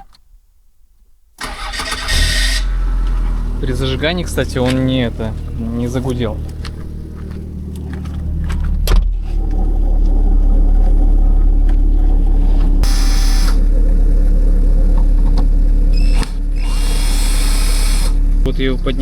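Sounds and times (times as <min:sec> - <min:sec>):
fuel pump humming: 0:01.4 - 0:19.0.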